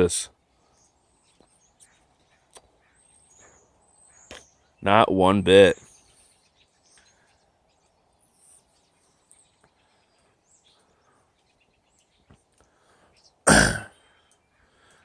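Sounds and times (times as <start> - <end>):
faint bird chirps: 0.3 - 15.0.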